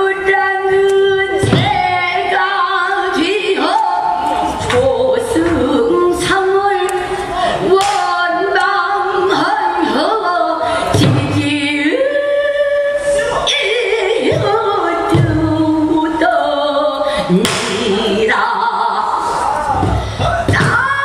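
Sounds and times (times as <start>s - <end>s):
woman singing: 0.0s - 21.0s.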